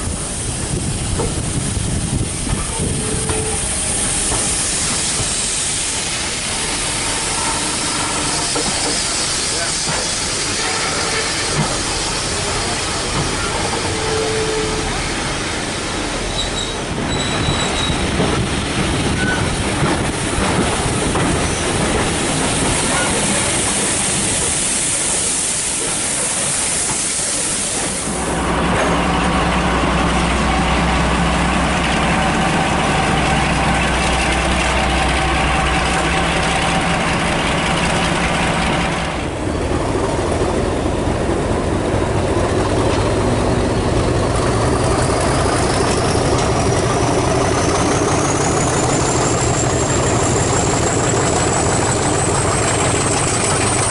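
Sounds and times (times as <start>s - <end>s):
locomotive engine drone: 0.0s - 53.9s
locomotive rushing hiss: 0.0s - 53.9s.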